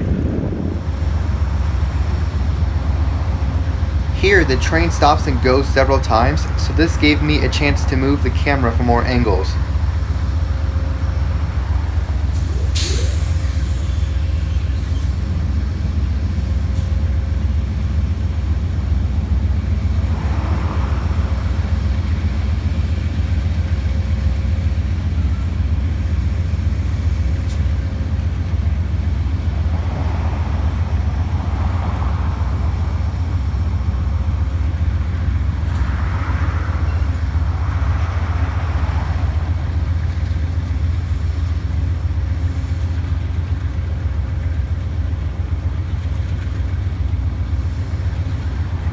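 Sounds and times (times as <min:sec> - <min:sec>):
diesel locomotives rumbling: 0:00.0 - 0:48.9.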